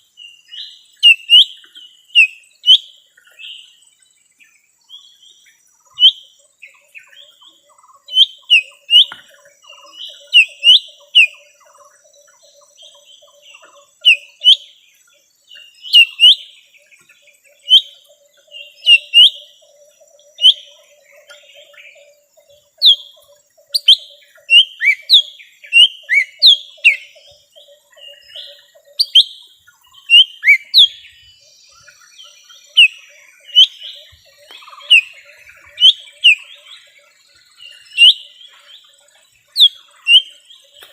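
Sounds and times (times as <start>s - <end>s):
bird sharp chirps: 0.0s - 3.7s, 4.9s - 40.9s.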